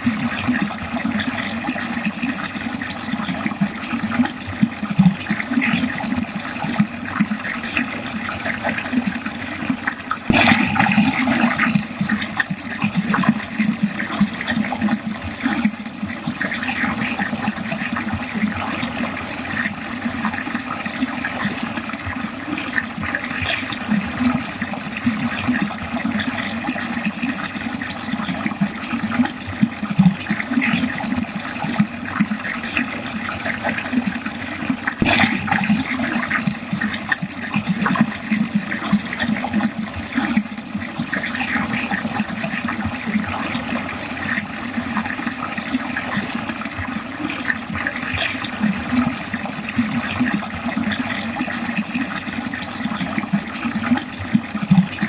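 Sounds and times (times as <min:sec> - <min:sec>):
water draining down a drain: 0:00.0 - 0:55.0.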